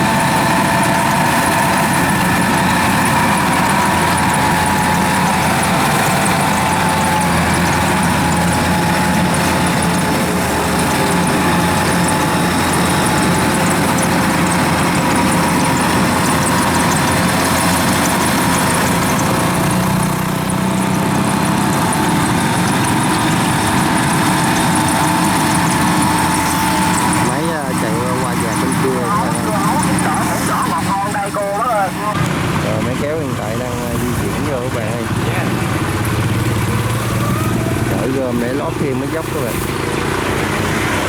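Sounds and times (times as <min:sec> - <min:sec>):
diesel engine running steadily: 0:00.0 - 0:41.0.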